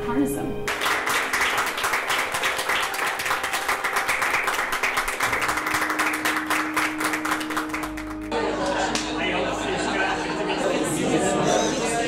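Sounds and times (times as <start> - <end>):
audience applauding: 0.7 - 11.6.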